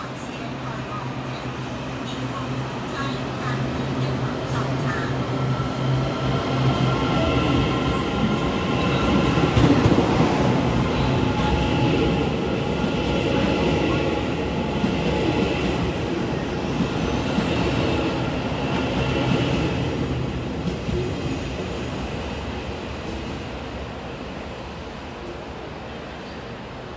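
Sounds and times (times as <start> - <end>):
steady train tones: 0.0 - 26.9
train rumbling past: 0.0 - 26.9.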